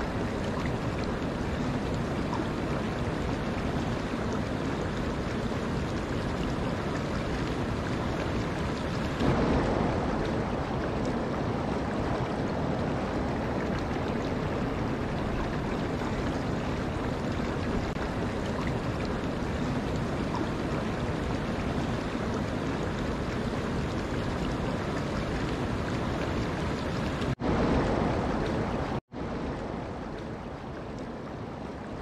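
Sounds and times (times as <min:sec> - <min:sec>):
stream flowing over rocks: 0:00.0 - 0:32.0.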